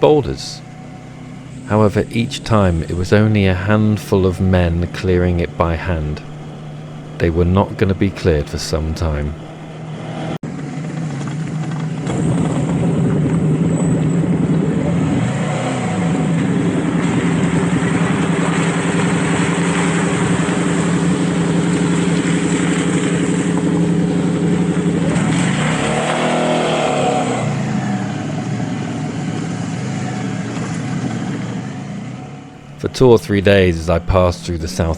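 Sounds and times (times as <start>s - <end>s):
motorcycle engine running: 0.0s - 34.9s
wind and road rush: 0.0s - 34.9s.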